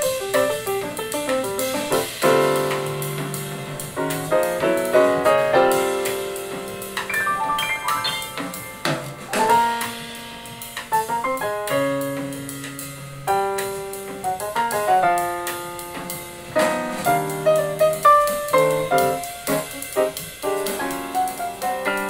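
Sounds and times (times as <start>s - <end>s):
piano music through speaker: 0.0s - 22.0s.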